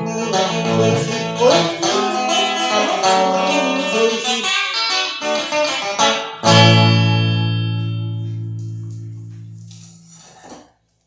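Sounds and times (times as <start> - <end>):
loud strummed guitar chord: 0.0 - 9.6
guitar plucked notes: 0.0 - 9.9.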